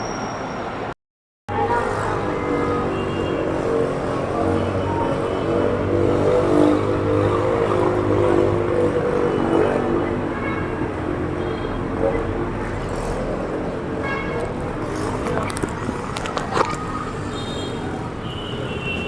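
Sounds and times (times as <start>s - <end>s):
road noise: 0.0s - 19.0s
vehicle engine hum: 1.5s - 18.2s.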